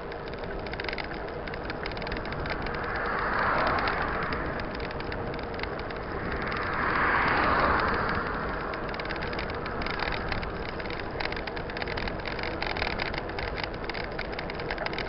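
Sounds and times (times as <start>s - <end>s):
bike tyres rolling over dirt: 0.0s - 15.0s
small rattles and clicks: 0.0s - 15.0s
rush of noise: 1.9s - 15.0s.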